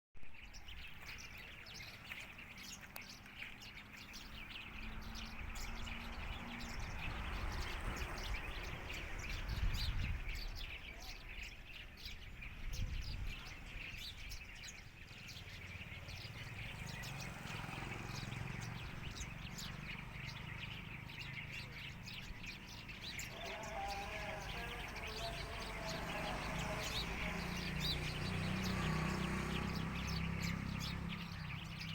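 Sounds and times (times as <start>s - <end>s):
small birds chirping: 0.2s - 31.9s.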